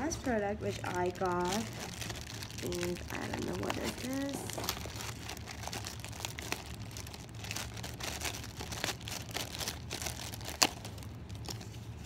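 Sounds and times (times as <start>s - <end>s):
plastic wrapping crinkling: 0.1s - 12.0s.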